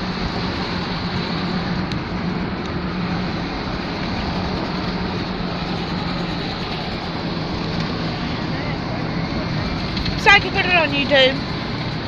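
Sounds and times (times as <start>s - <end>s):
rush of tyres and air: 0.0s - 10.2s
low engine drone: 0.0s - 12.0s.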